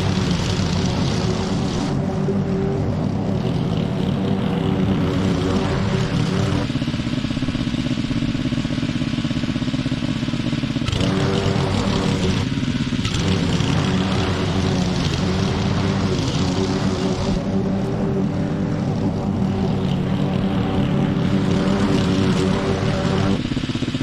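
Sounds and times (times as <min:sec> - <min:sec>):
small petrol engine running: 0:00.0 - 0:24.0.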